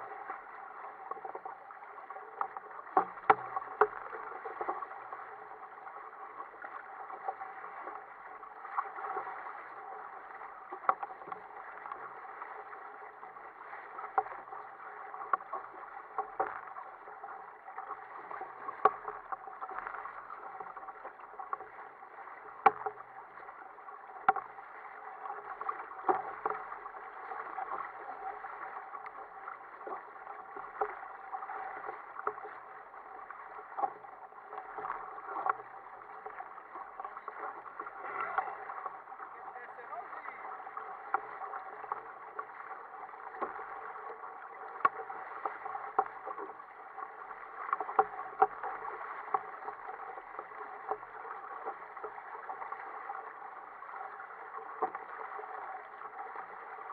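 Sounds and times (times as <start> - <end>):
water rushing against a hull: 0.0 - 56.9.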